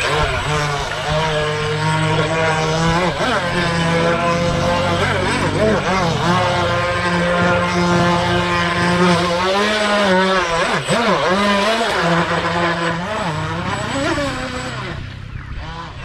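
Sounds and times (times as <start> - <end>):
rc boat electric motor whining: 0.0 - 16.0.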